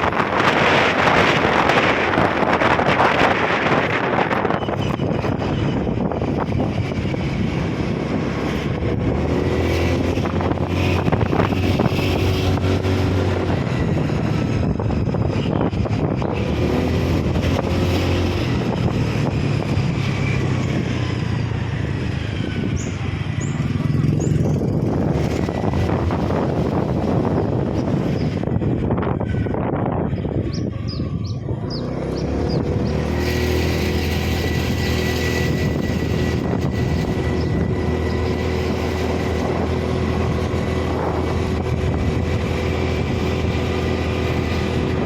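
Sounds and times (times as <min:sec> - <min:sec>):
road noise: 0:00.0 - 0:45.0
vehicle engine running: 0:00.0 - 0:45.0.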